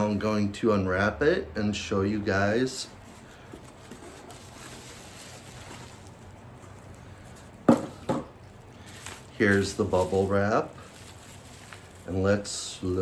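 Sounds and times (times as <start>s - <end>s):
bubble wrap crackling: 2.5s - 13.0s
packaging rustling: 2.5s - 13.0s.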